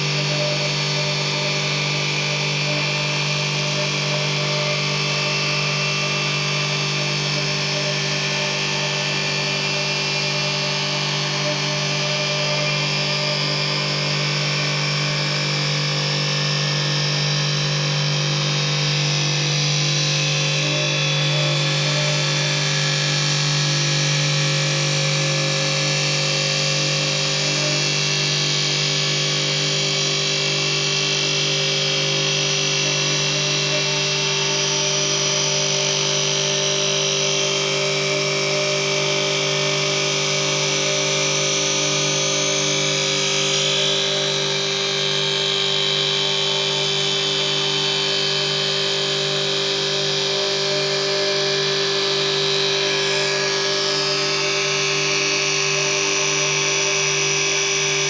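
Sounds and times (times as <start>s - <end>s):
lathe motor humming: 0.0s - 15.3s, 18.9s - 58.0s
high-pitched machine whine: 0.0s - 58.0s.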